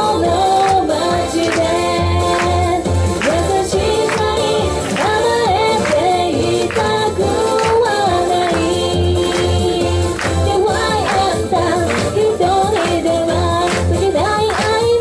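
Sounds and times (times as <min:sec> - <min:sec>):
amplified pop backing music: 0:00.0 - 0:15.0
woman singing into microphone: 0:00.0 - 0:15.0.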